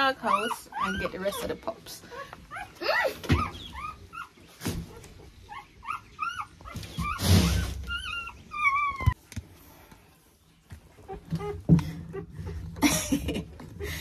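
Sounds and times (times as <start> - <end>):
puppies whimpering and squeaking: 0.0 - 9.2, 10.5 - 12.8.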